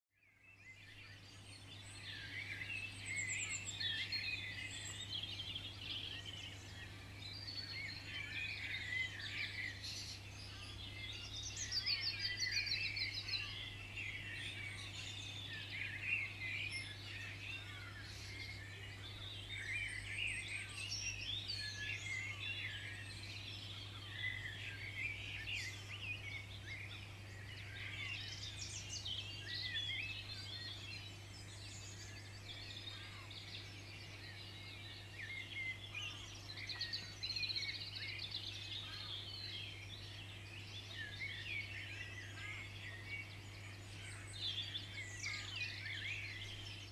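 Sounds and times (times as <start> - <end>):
small birds chirping: 0.1 - 46.9.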